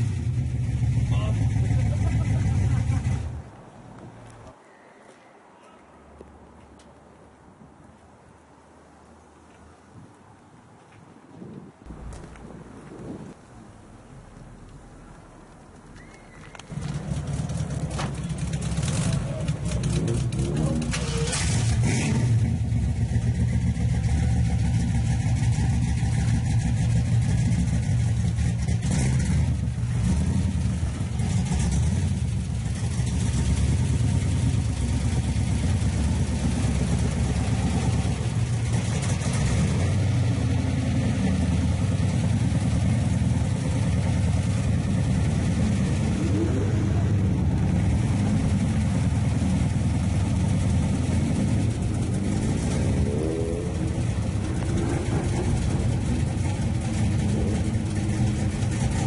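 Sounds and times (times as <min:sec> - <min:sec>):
car engine idling: 0:00.0 - 0:03.6, 0:11.9 - 0:59.0.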